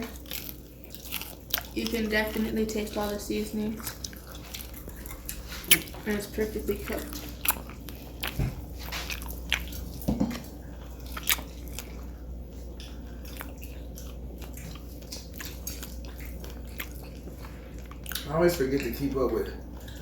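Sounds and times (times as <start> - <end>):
biting and chewing crispy chicken: 0.0 - 20.0.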